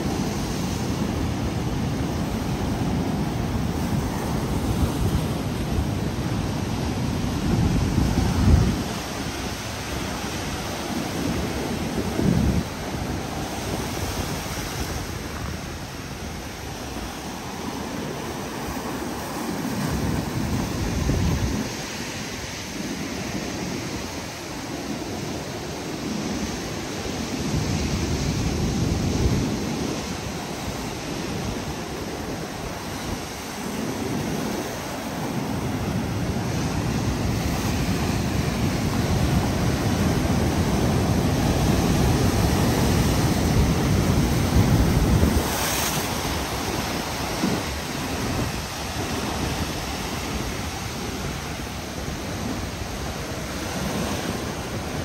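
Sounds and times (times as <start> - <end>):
ocean surf washing in: 0.0 - 55.0
wind buffeting microphone: 0.0 - 55.0.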